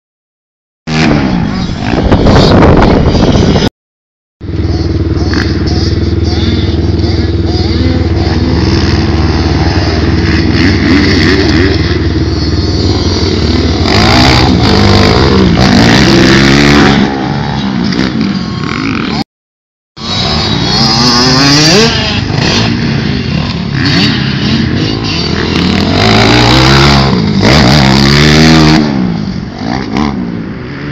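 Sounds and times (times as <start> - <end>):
dirt bike engine revving: 0.9 - 3.7, 4.4 - 19.2, 20.0 - 30.9.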